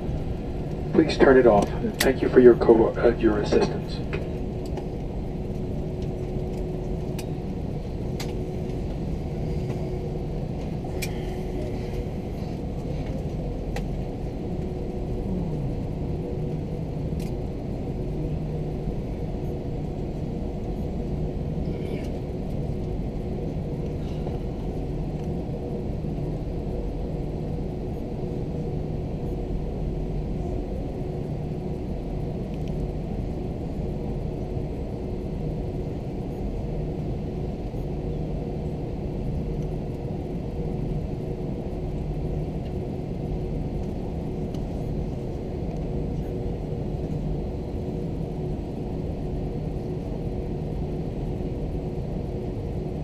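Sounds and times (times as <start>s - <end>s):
airplane cabin rumble: 0.0s - 53.0s
steady hums: 0.0s - 53.0s.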